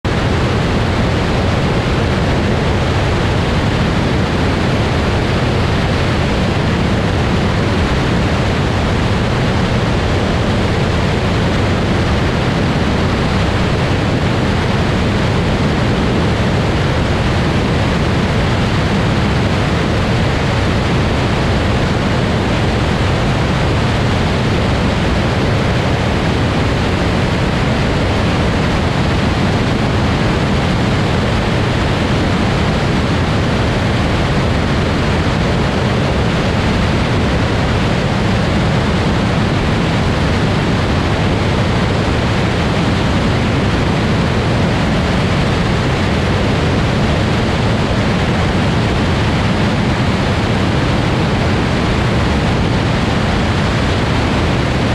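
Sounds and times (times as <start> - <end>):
aircraft engine drone: 0.0 - 54.9
rushing slipstream wind: 0.0 - 54.9.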